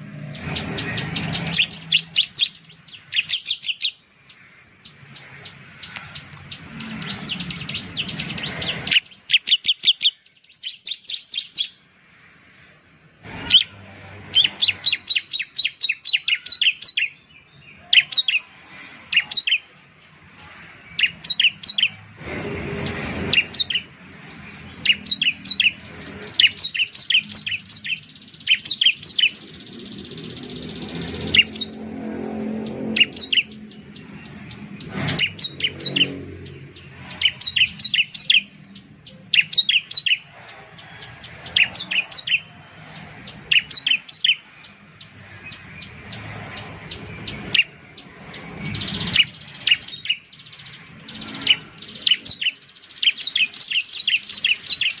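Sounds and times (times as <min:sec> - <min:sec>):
bird chirping fast and high: 0:00.0 - 0:11.9, 0:12.5 - 0:55.0.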